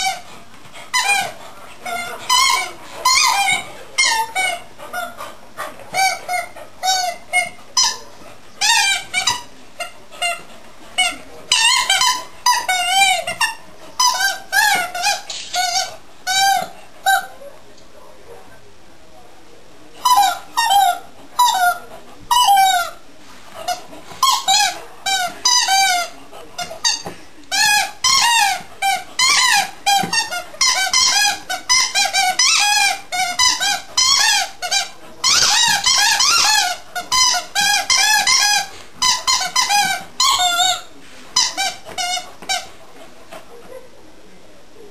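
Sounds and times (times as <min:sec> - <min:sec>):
squeaky dog toy squeaking: 0:00.0 - 0:00.3, 0:00.9 - 0:05.2, 0:05.9 - 0:17.3, 0:20.0 - 0:23.0, 0:23.6 - 0:42.7.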